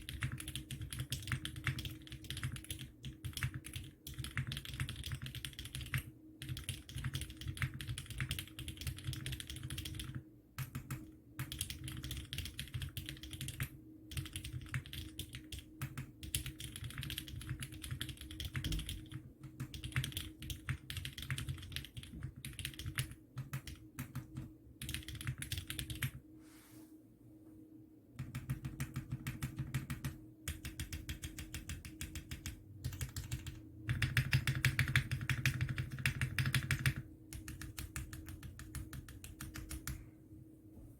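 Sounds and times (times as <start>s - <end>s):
typing on mechanical keyboard: 0.0s - 26.2s, 28.2s - 40.0s.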